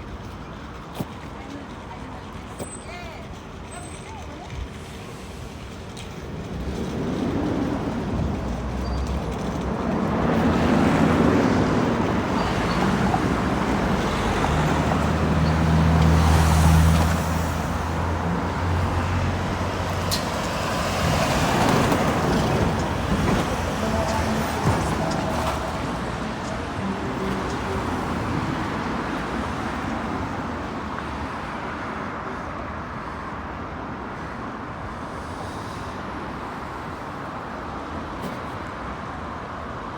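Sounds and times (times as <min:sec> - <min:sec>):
heavy vehicle engine hum: 0:00.0 - 0:38.2
road traffic passing: 0:00.0 - 0:39.9.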